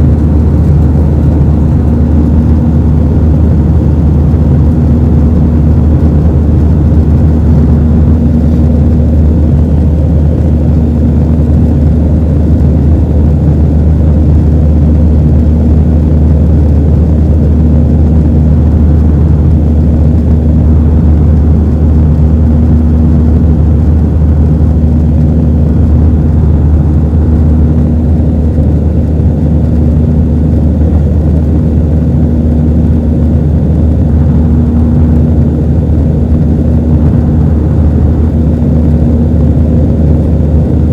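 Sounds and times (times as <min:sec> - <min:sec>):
jet engine cabin drone: 0:00.0 - 0:40.9.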